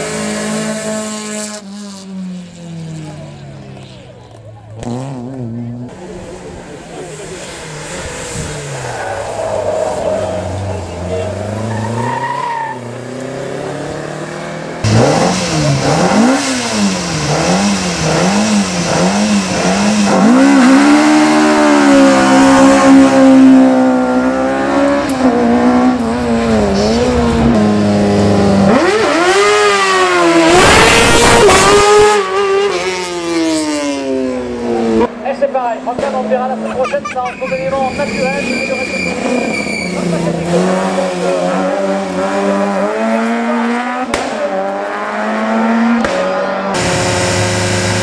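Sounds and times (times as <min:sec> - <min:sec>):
rally car engines at full throttle: 0:00.0 - 0:48.0.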